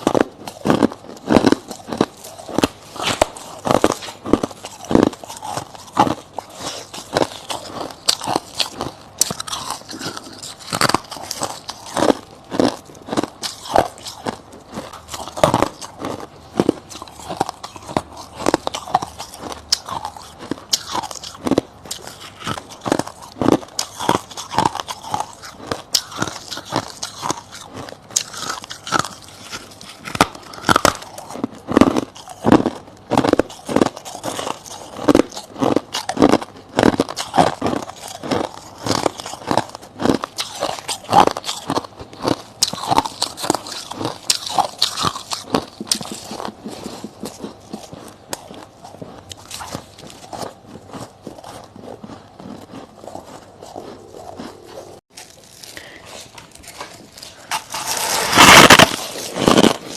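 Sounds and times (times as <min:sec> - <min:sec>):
crunchy ice chewing: 0:00.0 - 0:59.9.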